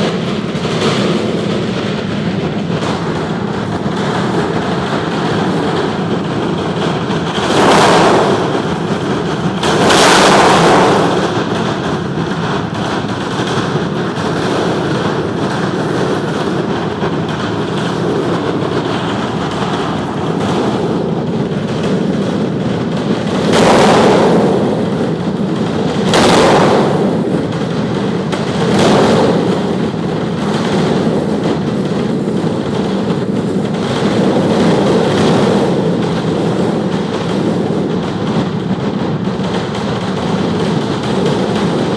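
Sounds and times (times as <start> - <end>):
aircraft engine roaring: 0.0 - 40.2.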